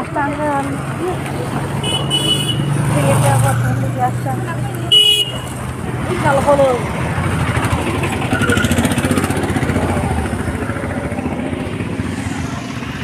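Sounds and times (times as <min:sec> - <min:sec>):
motorcycle passing by: 0:00.0 - 0:13.0.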